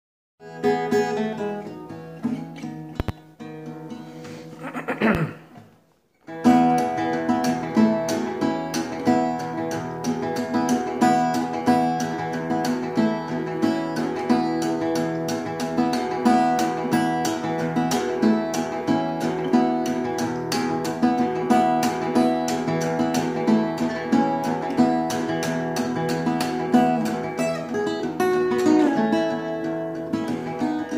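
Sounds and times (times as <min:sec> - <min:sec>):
fingerpicked acoustic guitar: 0:00.4 - 0:30.9.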